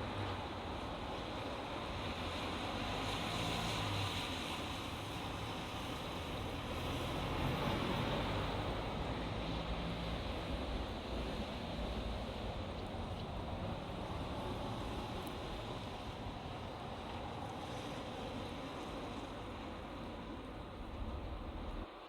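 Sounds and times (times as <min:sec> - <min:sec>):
vehicles passing on highway: 0:00.0 - 0:22.0
wind: 0:00.0 - 0:22.0.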